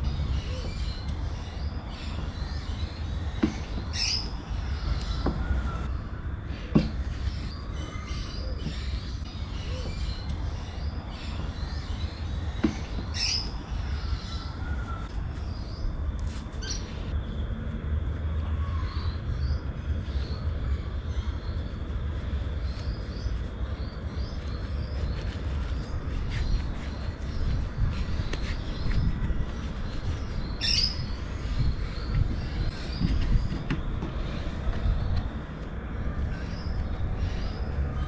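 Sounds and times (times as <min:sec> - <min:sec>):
birds chirping: 0:00.0 - 0:38.0
low background rumble: 0:00.0 - 0:38.0.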